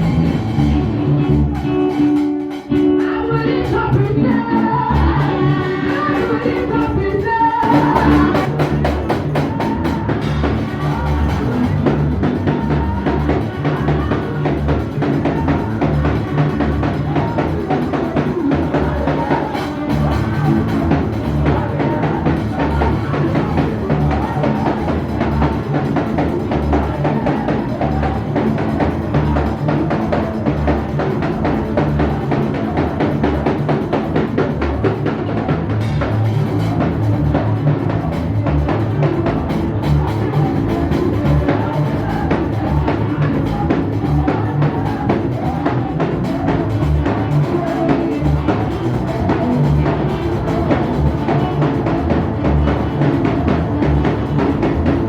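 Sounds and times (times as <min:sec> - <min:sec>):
band playing praise music: 0:00.0 - 0:55.0
drum kit beat: 0:00.0 - 0:55.0
people singing: 0:00.0 - 0:55.0.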